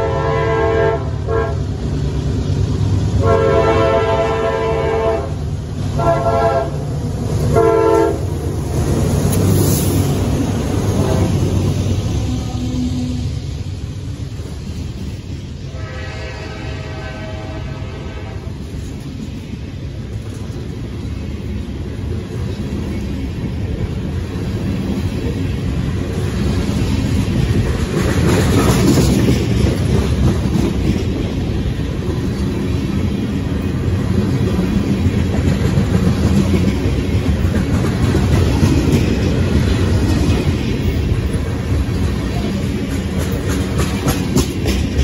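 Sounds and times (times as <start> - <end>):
freight train wheels rumbling on rails: 0.0 - 45.0.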